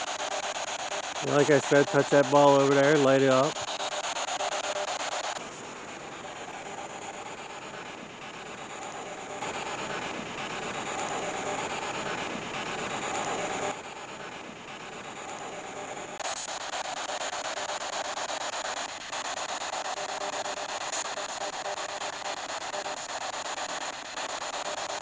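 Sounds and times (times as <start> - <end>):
radio static hiss with clicks: 0.0 - 25.0.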